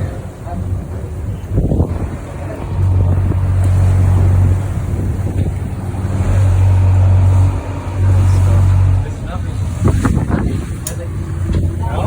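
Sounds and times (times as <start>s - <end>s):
motorboat engine drone: 0.0s - 12.0s
rushing wind and water: 0.0s - 12.0s.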